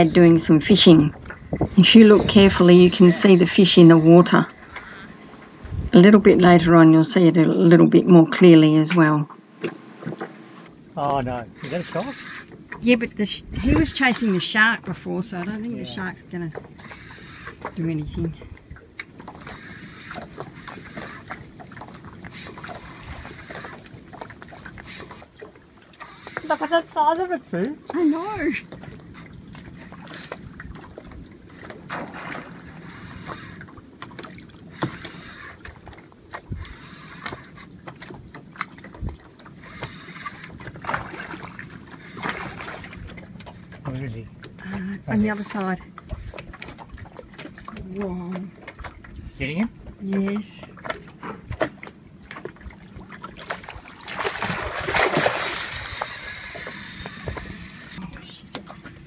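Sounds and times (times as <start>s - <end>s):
water lapping against boat hull: 0.0s - 8.7s, 9.4s - 59.0s.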